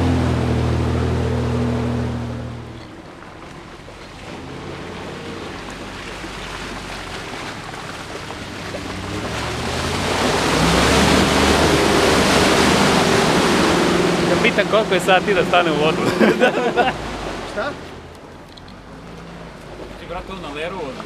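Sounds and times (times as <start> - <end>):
suv engine under load: 0.0 - 21.0
tyres splashing through mud: 0.0 - 21.0.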